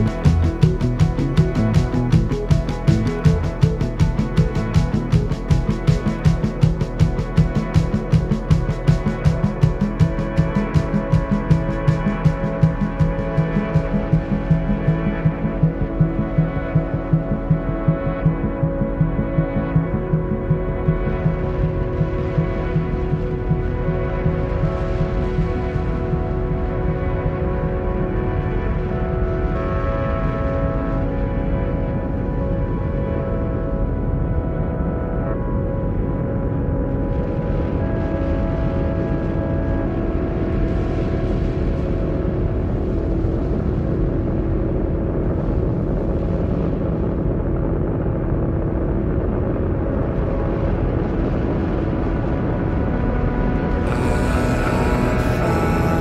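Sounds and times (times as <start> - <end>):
ambient drone music: 0.0 - 56.0
low throbbing pulse: 0.0 - 56.0
volcano rumbling: 0.0 - 56.0.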